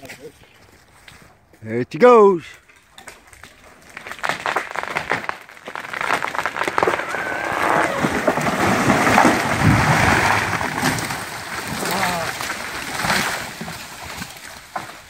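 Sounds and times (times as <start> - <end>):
branches crashing through trees: 2.6 - 15.0
tree trunk cracking: 2.6 - 15.0.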